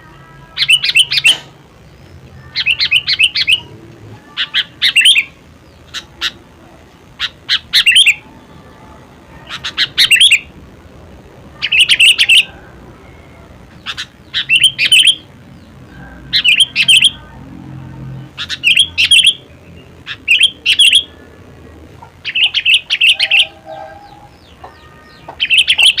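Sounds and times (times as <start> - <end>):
bird chirping song: 0.0 - 10.6, 11.5 - 26.0.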